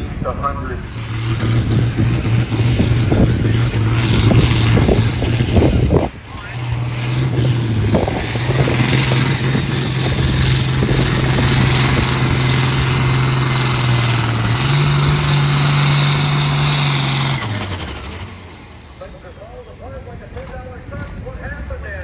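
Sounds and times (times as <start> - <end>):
engine running hard under load: 0.1 - 22.0.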